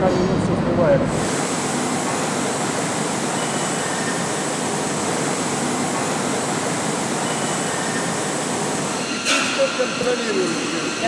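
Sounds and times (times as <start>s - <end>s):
factory machinery rushing noise: 0.0s - 11.0s.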